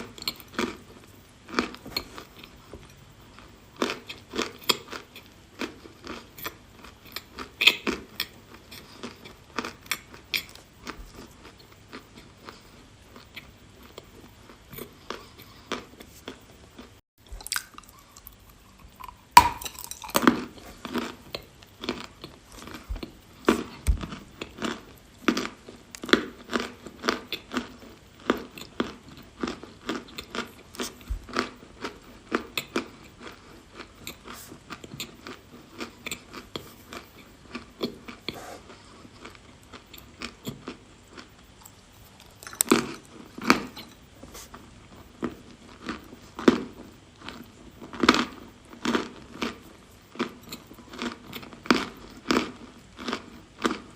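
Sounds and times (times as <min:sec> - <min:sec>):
person chewing dry chalk: 0:00.0 - 0:53.9.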